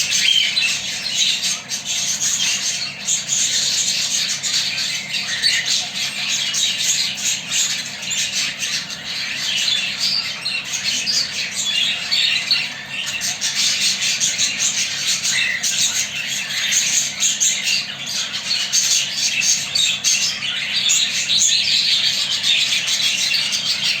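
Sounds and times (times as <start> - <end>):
budgerigars chattering and squawking: 0.0 - 24.0.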